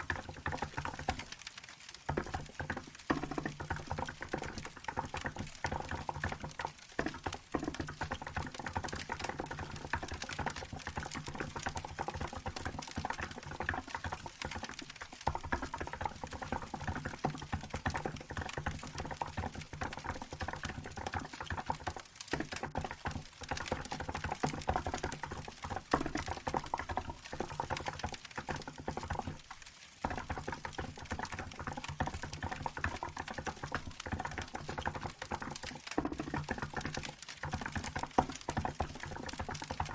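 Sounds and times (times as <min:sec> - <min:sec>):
crackling wood fire: 0:00.0 - 0:39.9
fast keyboard typing: 0:02.0 - 0:39.9.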